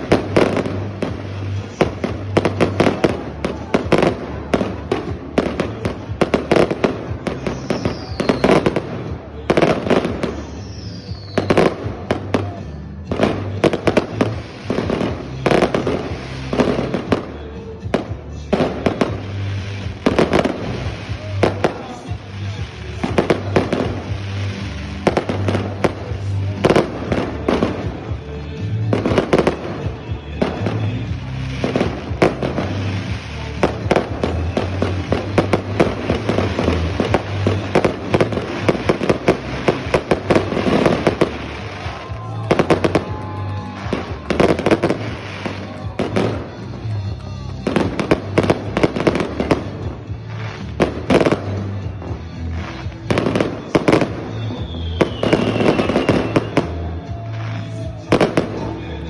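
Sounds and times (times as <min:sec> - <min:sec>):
fireworks bursting and crackling: 0:00.0 - 0:59.0.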